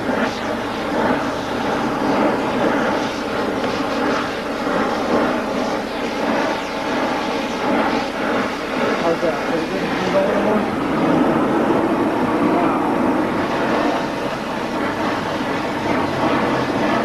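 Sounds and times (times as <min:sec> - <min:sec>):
torch flame rushing: 0:00.0 - 0:17.0.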